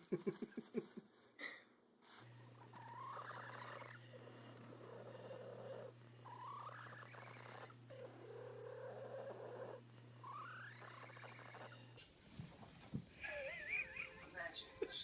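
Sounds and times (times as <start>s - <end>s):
steady low hum: 2.2s - 15.0s
cat purring: 2.3s - 15.0s.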